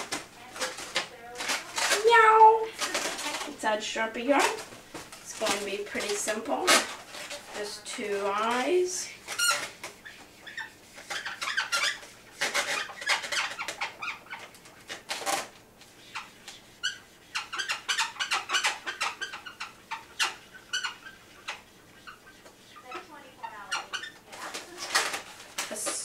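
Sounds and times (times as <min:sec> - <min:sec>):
balloons squeaking: 0:00.0 - 0:26.0.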